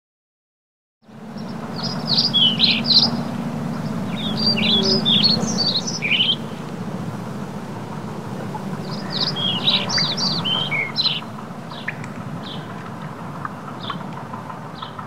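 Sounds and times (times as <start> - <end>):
steady low background noise: 1.1 - 15.0
small birds chirping: 1.3 - 15.0.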